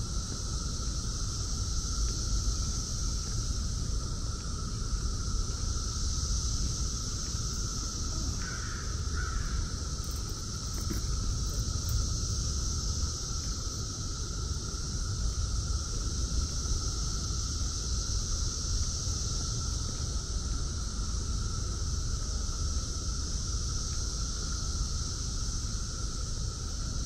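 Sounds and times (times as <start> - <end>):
cicadas droning chorus: 0.0 - 27.0.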